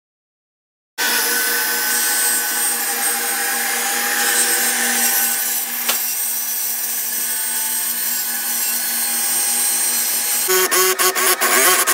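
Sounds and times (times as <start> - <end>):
track saw whining: 1.0 - 11.9.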